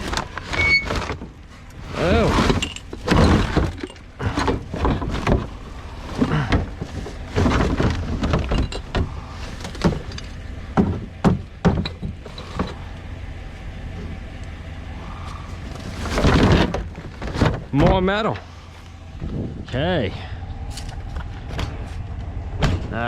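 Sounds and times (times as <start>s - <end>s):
junk knocking and clattering: 0.0s - 19.8s, 20.7s - 23.0s
low steady rumble: 0.0s - 23.0s.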